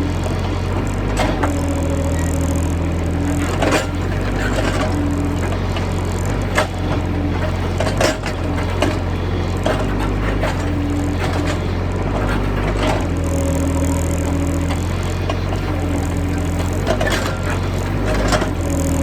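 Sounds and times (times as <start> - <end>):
engine whine: 0.0 - 19.0
excavator engine running: 0.0 - 19.0.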